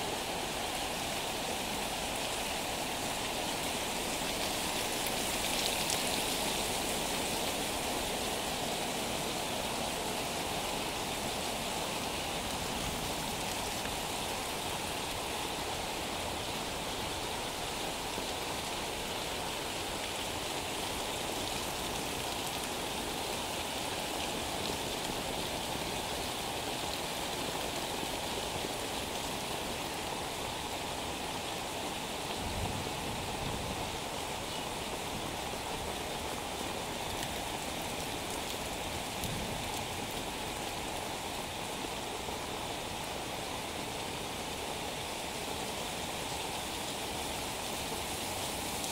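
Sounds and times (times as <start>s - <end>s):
heavy rain on pavement and roofs: 0.0s - 48.9s.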